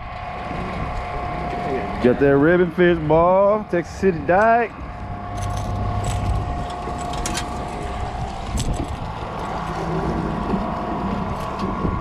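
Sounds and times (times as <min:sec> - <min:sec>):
engine running steadily: 0:00.0 - 0:12.0
wind buffeting microphone: 0:00.0 - 0:12.0.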